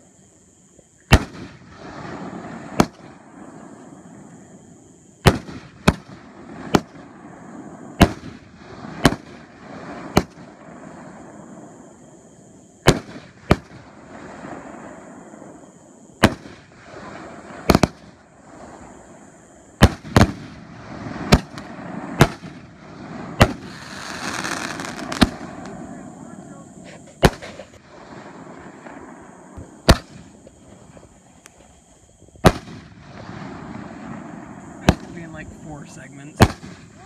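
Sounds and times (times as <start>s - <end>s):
fireworks bangs: 1.1s - 37.0s
fireworks crackling: 1.1s - 37.0s.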